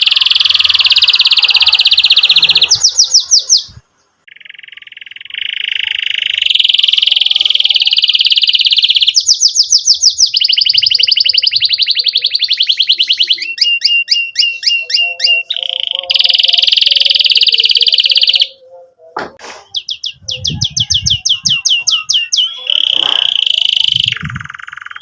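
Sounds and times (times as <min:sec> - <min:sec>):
canary singing in trills: 0:00.0 - 0:25.0.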